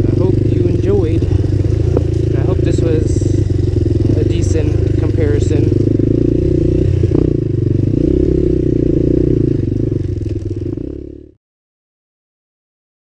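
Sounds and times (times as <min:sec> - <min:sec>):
quad bike engine running: 0:00.0 - 0:11.4.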